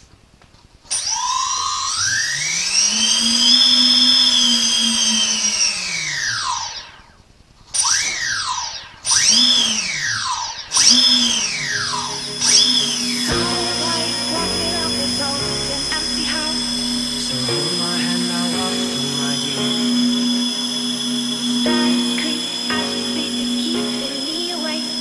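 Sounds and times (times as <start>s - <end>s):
brushless motors whining: 2.1s - 6.6s, 9.1s - 25.0s.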